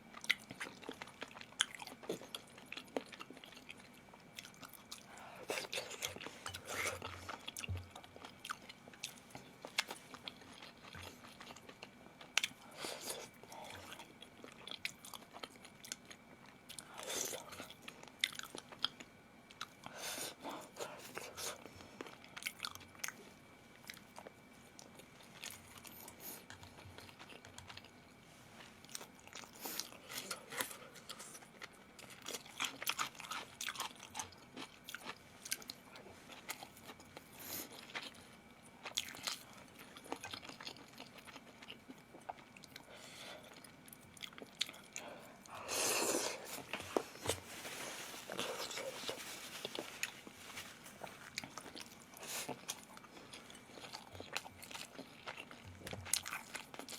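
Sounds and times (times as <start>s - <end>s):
person chewing crunchy food: 0.1s - 56.9s.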